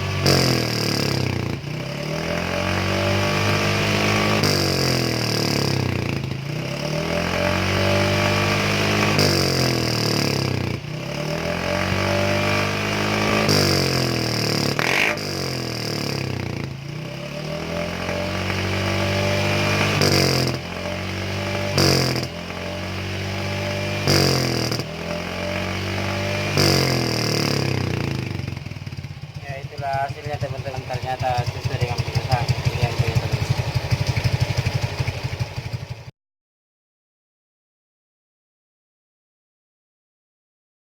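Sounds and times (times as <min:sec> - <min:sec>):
scooter engine revving: 0:00.0 - 0:36.1.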